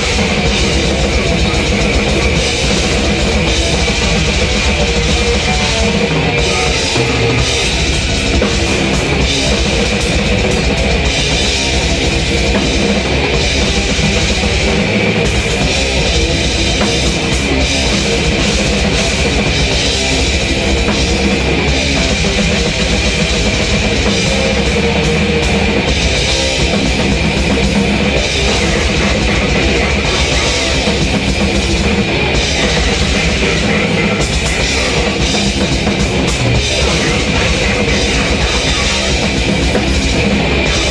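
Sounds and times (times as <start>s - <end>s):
distorted guitars heavy metal: 0.0s - 40.9s
rapid bass drum strokes: 0.0s - 40.9s.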